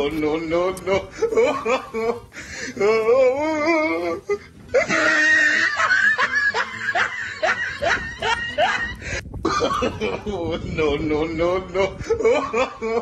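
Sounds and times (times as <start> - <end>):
people laughing: 0.8 - 13.0.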